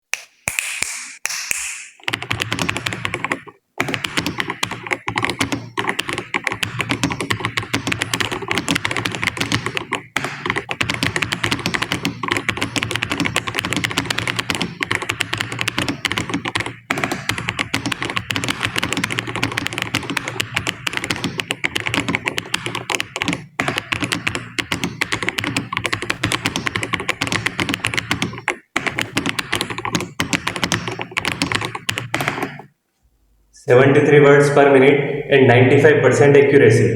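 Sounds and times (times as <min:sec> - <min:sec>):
fast typing on keyboard: 0:02.0 - 0:32.7.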